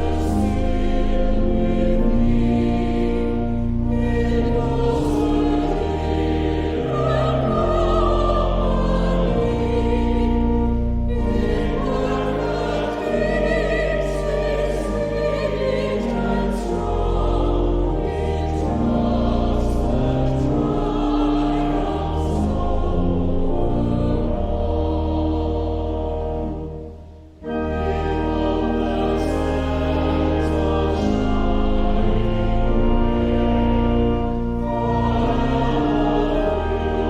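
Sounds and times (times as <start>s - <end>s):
choir singing a hymn: 0.0s - 37.0s
pipe organ chords: 0.0s - 37.0s.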